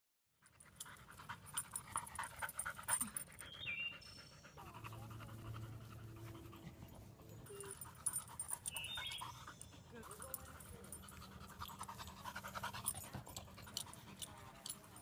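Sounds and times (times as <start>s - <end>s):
dog panting hard: 0.4s - 15.0s.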